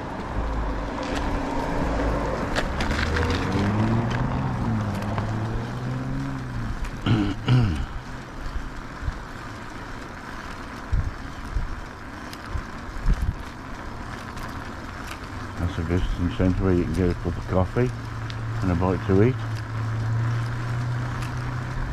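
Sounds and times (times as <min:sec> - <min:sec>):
low bumps: 0:00.0 - 0:21.9
wind and road rushing: 0:00.0 - 0:21.9.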